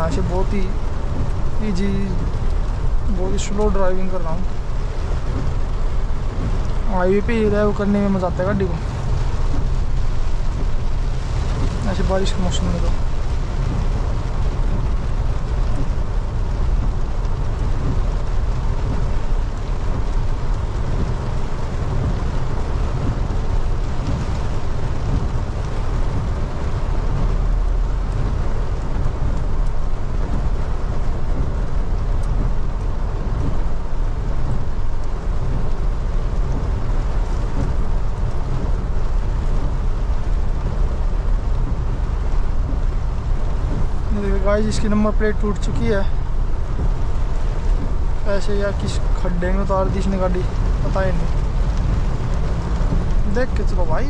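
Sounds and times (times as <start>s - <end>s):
diesel engine low rumble: 0.0s - 54.0s
heavy rain hissing: 0.0s - 54.0s.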